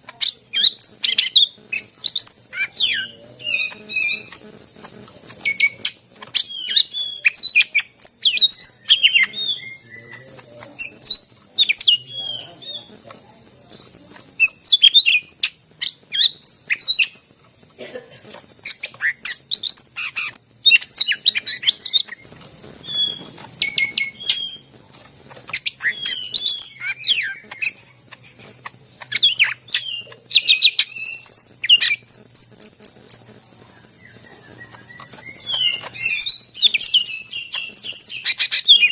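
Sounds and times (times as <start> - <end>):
bird singing rapid chirps: 0.0 - 17.4, 18.5 - 38.9.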